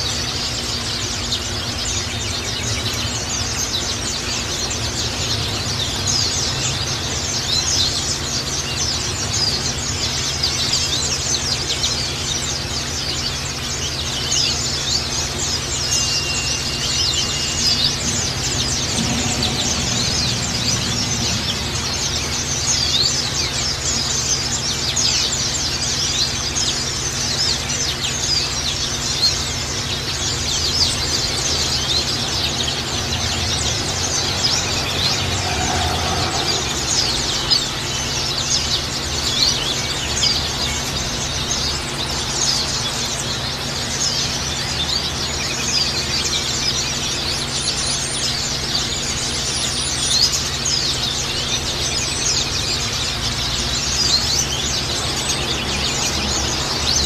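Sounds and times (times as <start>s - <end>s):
birds chirping and twittering: 0.0s - 57.0s
steady low hum: 0.0s - 57.0s.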